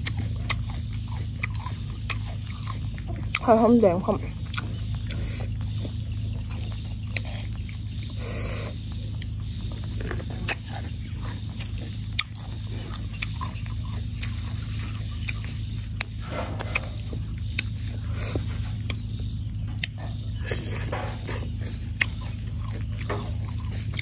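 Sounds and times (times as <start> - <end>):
low hum: 0.0 - 24.0
person chewing and crunching food: 0.0 - 24.0.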